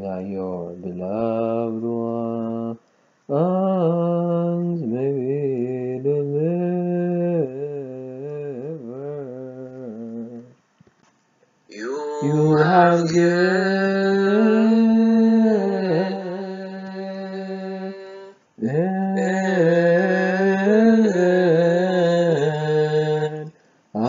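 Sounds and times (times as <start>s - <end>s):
man chanting a psalm: 0.0s - 10.5s, 11.7s - 24.0s.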